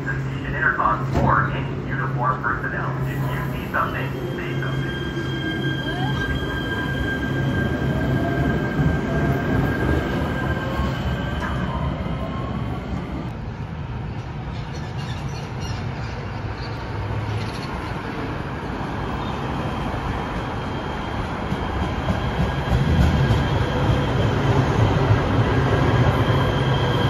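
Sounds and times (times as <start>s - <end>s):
light-rail train rumbling: 0.0s - 27.0s.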